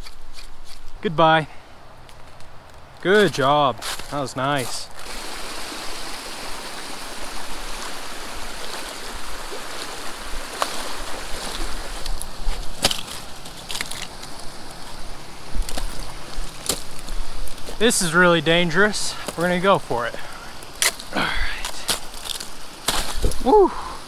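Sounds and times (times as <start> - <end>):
creek flowing: 1.2 - 24.0.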